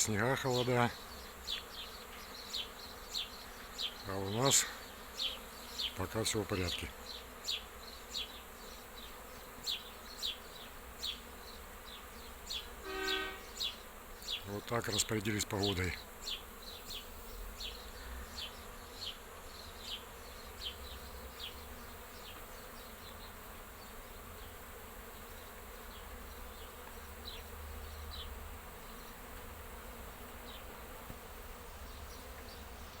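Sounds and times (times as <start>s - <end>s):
honeybees humming: 0.0s - 33.0s.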